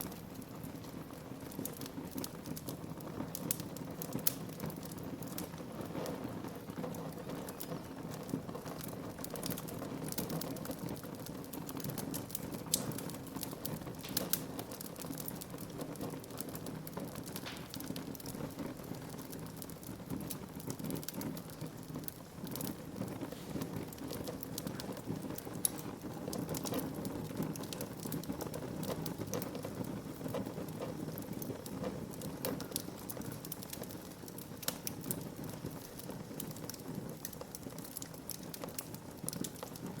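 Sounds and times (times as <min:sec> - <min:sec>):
low rush of flame: 0:00.0 - 0:40.0
wood fire crackling: 0:00.0 - 0:40.0.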